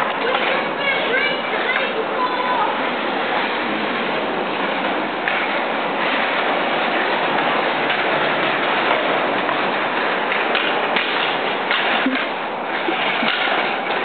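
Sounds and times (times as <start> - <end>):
skateboard wheels rolling on concrete: 0.0 - 14.0.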